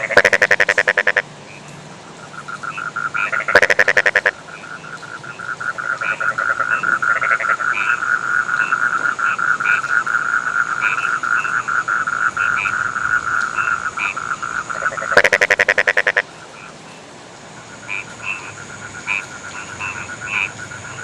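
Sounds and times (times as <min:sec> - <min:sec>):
frog croaks: 0:00.0 - 0:16.8, 0:17.7 - 0:21.0
rapid pulsing frog call: 0:00.0 - 0:16.8, 0:17.6 - 0:21.0
frogs trilling: 0:00.0 - 0:21.0.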